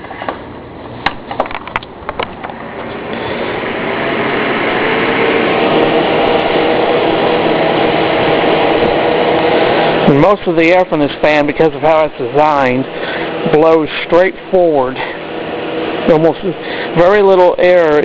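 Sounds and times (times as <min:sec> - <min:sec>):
faint motor hum: 0:00.0 - 0:18.0
table fan air rushing: 0:00.0 - 0:18.0.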